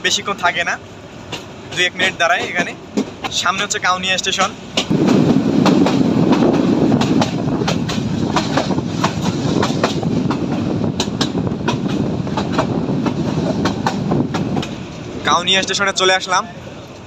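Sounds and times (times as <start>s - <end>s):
train carriages rumbling: 0.0s - 17.0s
wheels clacking over rail joints: 0.1s - 17.0s.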